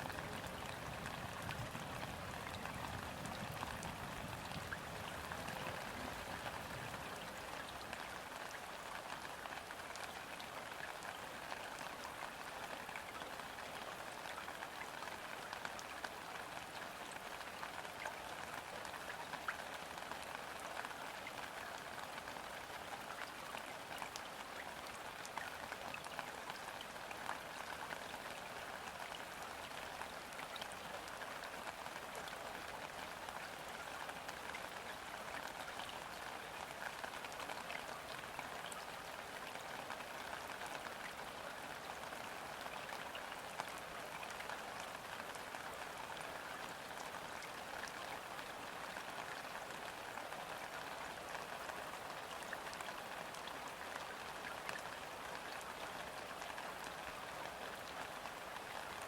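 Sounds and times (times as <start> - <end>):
light rain on river surface: 0.0 - 59.0.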